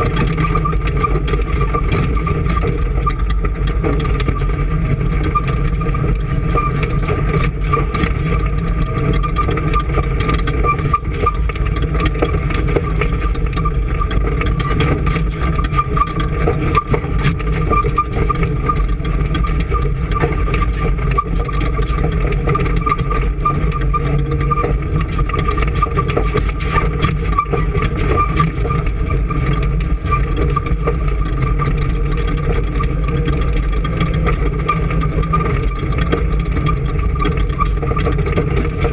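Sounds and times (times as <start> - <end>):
machine engine running: 0.0 - 38.9
small ticks and rattles: 0.0 - 38.9.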